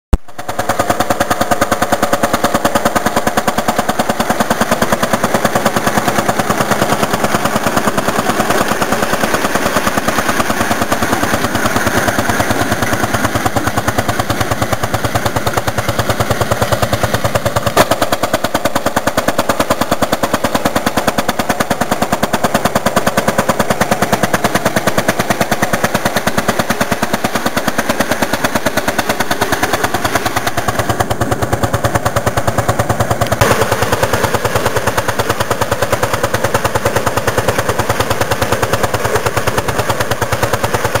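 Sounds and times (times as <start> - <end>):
sharp exhaust crack: 0.1 - 41.0
tractor engine popping under load: 0.1 - 41.0.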